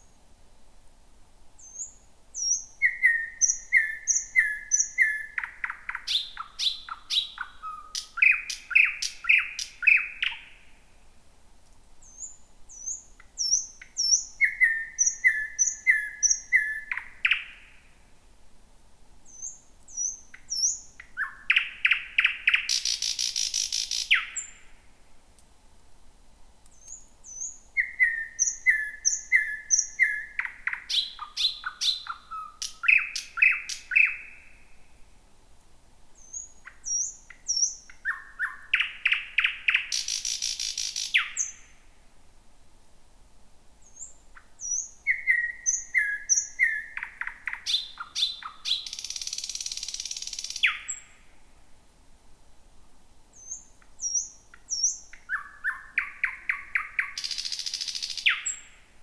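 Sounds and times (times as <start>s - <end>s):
nightingale singing: 1.6s - 10.8s, 12.0s - 18.0s, 19.2s - 24.8s, 26.7s - 35.0s, 36.2s - 41.8s, 43.8s - 51.3s, 53.3s - 59.0s.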